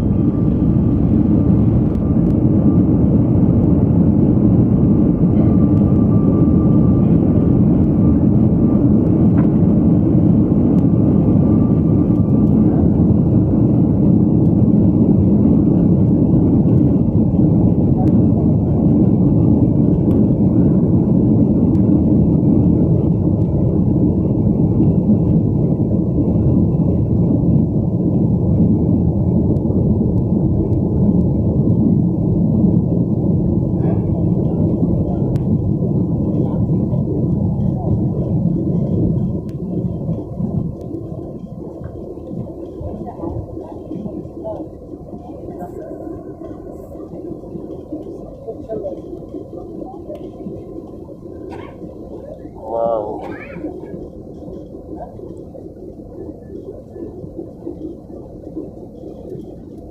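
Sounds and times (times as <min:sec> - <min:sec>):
engine rumble inside vehicle: 0:00.0 - 0:58.2.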